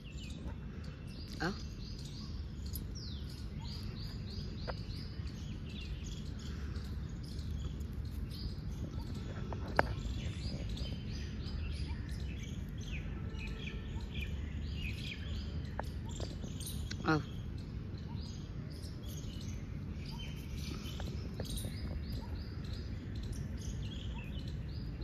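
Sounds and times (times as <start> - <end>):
low outdoor rumble: 0.0 - 25.0
small birds chirping: 0.0 - 25.0.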